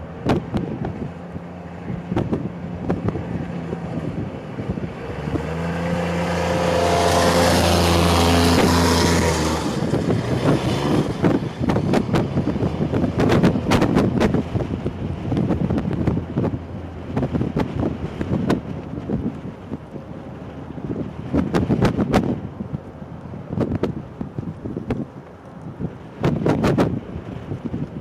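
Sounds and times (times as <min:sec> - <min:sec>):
vehicle passing close by: 0:00.0 - 0:25.0
wind buffeting microphone: 0:00.0 - 0:28.0.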